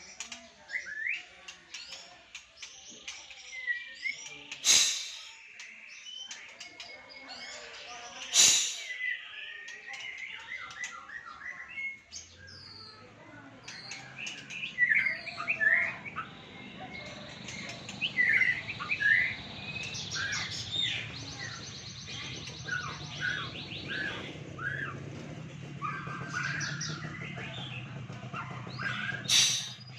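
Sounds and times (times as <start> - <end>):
songbird chirping and twittering: 0.0 - 29.9.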